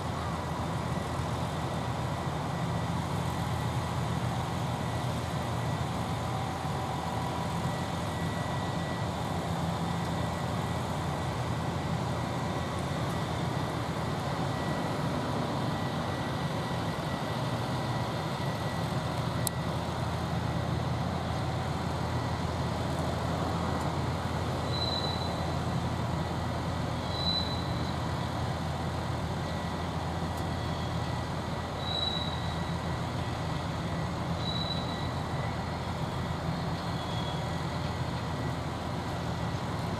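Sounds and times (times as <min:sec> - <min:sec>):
low rumble of trains: 0:00.0 - 0:39.9.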